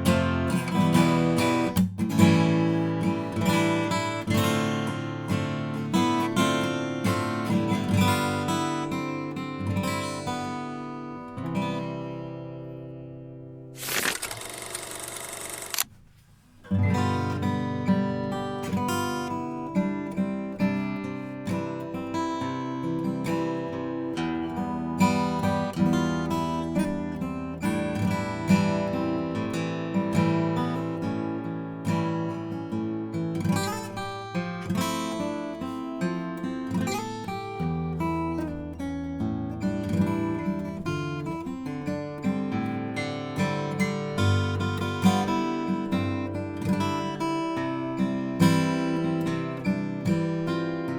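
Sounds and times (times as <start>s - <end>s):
fingerstyle acoustic guitar: 0.0s - 15.3s, 15.9s - 50.9s.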